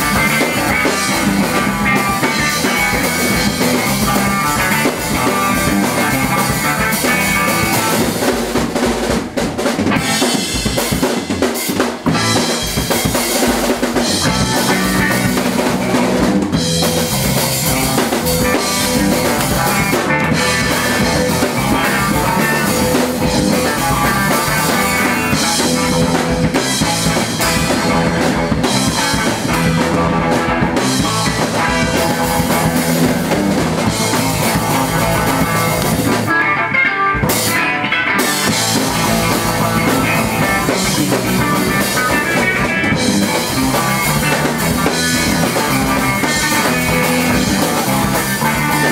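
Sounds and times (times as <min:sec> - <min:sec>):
drum kit with rimshots: 0:00.0 - 0:48.9
electric guitar: 0:00.0 - 0:48.9
punk rock band playing: 0:00.0 - 0:48.9.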